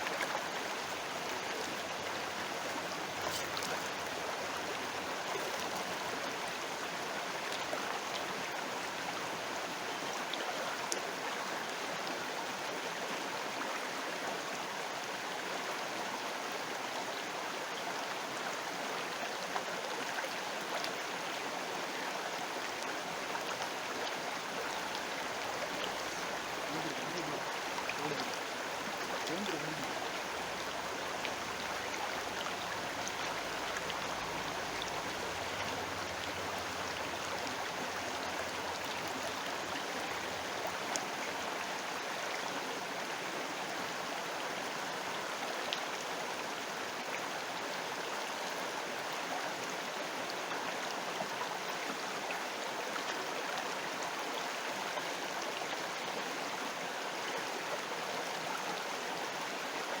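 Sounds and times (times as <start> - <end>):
river water flowing: 0.0 - 60.0.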